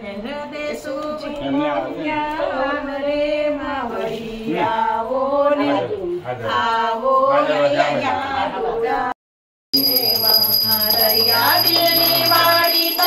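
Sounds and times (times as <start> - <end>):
women singing devotional song: 0.0 - 9.2, 9.8 - 13.0.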